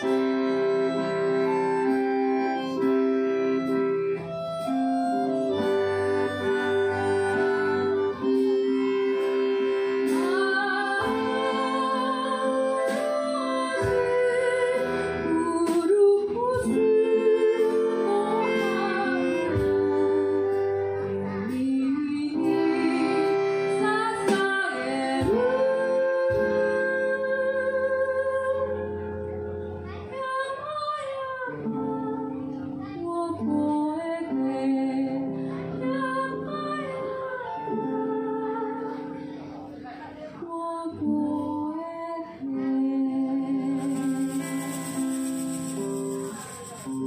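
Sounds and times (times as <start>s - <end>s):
accordion chords: 0.0s - 47.0s
acoustic guitar: 0.0s - 47.0s
woman singing: 4.6s - 29.3s, 29.9s - 47.0s.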